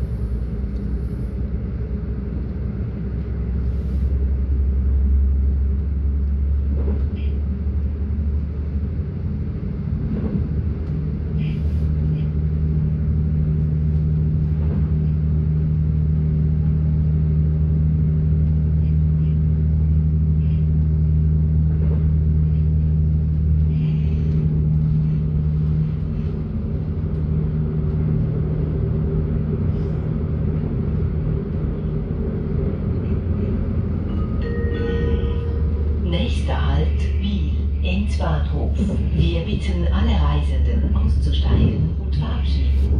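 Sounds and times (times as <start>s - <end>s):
low motor hum: 0.0s - 42.9s
train wheels rumbling on rails: 0.0s - 42.9s.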